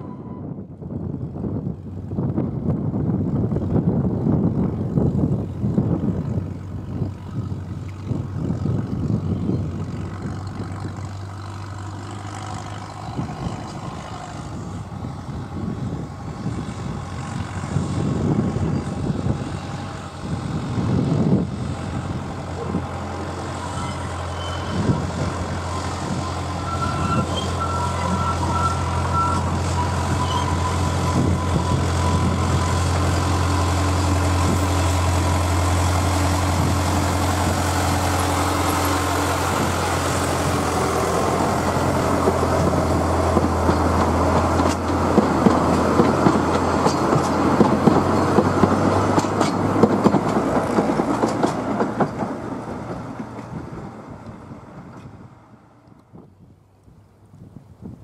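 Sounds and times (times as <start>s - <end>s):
wind buffeting microphone: 0.0s - 58.0s
diesel engine hum: 0.5s - 56.8s.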